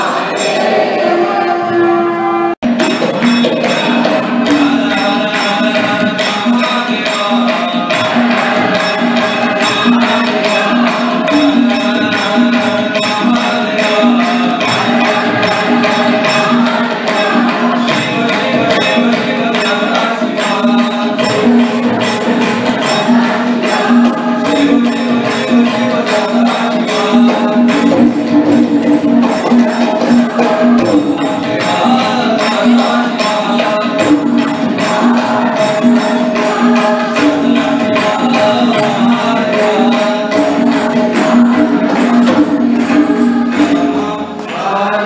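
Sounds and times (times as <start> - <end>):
jingling percussion: 0.0 - 1.7, 2.6 - 45.0
crowd singing a devotional chant: 0.0 - 45.0.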